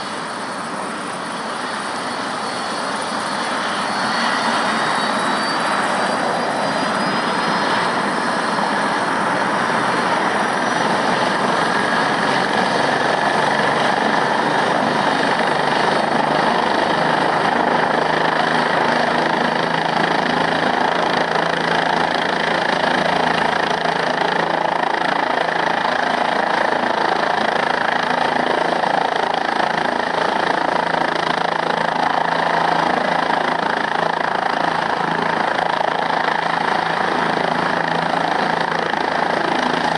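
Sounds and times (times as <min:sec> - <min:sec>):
faint high whine: 0:00.0 - 0:39.9
helicopter rotor and engine roar: 0:00.0 - 0:39.9.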